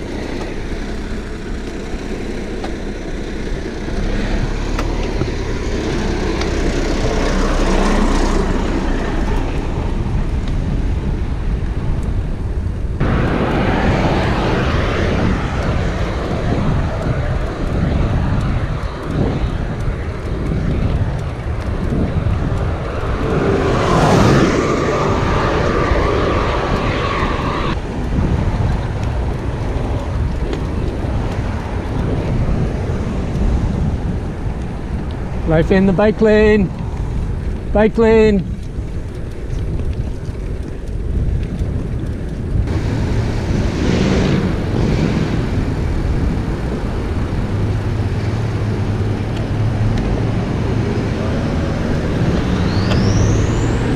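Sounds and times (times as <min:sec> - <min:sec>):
road traffic passing: 0:00.0 - 0:53.9
wind on microphone: 0:00.0 - 0:53.9.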